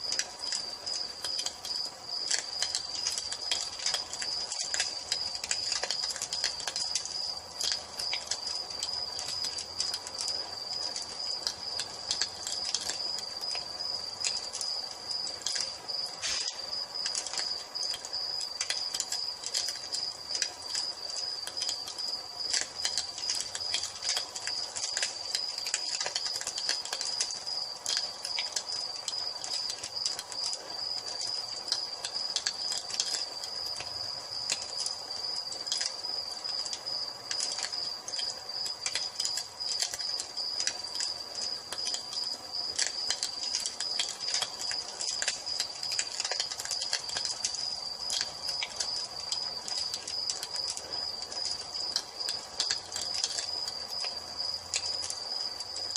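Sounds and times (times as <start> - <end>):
crickets chirping: 0.0 - 55.9
wood fire crackling: 0.0 - 55.9.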